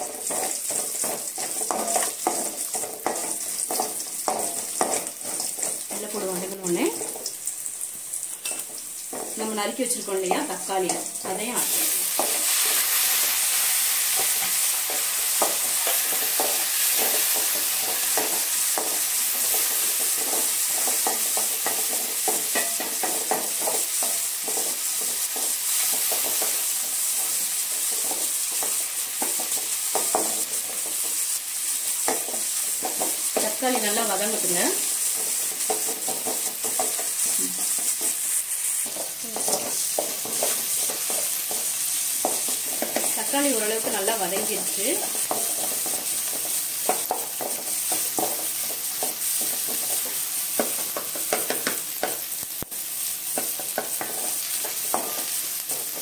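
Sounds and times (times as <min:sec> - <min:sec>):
spatula scraping a pan: 0:00.0 - 0:07.4, 0:10.8 - 0:52.4
vegetables sizzling in oil: 0:00.0 - 0:56.0.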